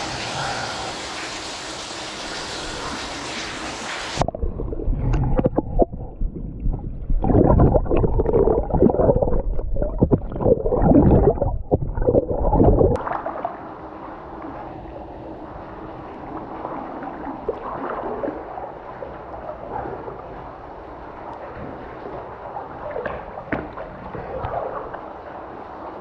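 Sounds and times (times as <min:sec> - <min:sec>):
underwater gurgling and sloshing: 0:00.0 - 0:26.0.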